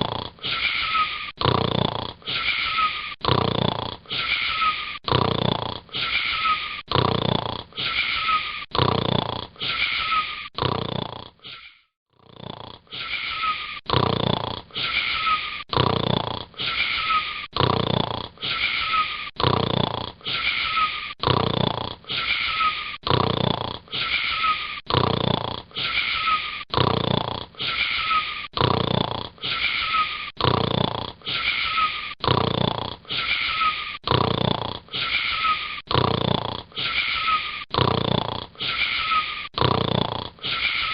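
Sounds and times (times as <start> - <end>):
person snoring: 0.0 - 40.9.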